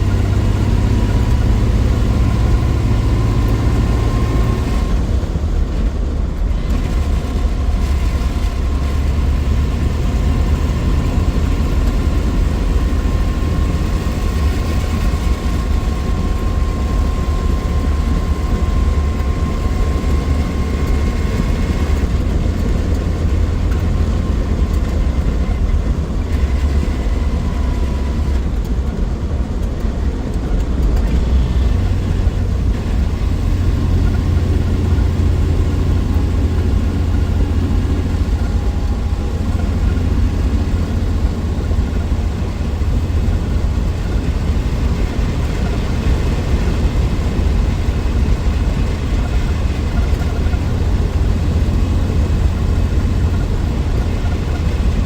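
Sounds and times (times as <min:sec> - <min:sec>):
car engine low rumble: 0:00.0 - 0:55.0
faint whine: 0:00.0 - 0:55.0
road noise: 0:00.0 - 0:55.0.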